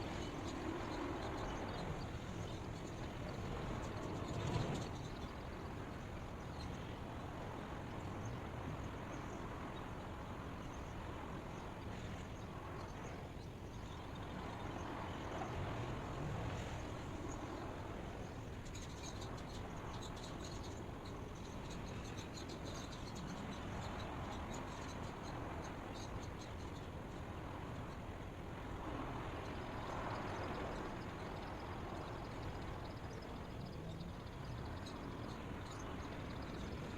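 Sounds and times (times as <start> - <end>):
outdoor ambient hiss: 0.0 - 36.9.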